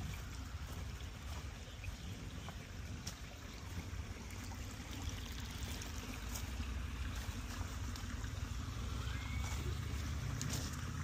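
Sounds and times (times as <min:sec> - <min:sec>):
creek trickling over pebbles: 0:00.0 - 0:11.0.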